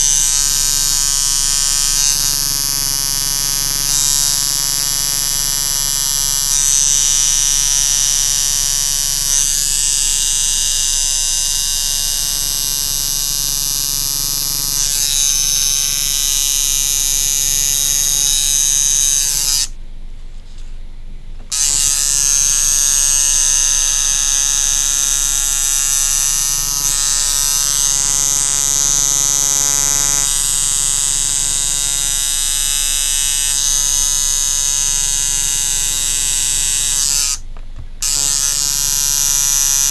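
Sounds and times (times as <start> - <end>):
tattoo machine buzzing: 0.0 - 19.8, 21.4 - 39.9.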